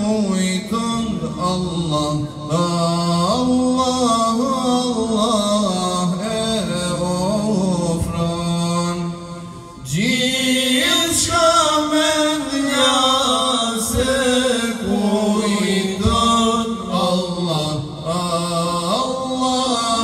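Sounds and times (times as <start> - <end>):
men singing a cappella hymn: 0.0 - 20.0.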